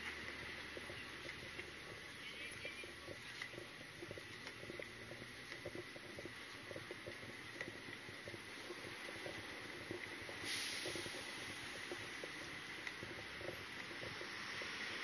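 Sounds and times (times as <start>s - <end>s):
gear ticking against camera: 0.0s - 15.0s.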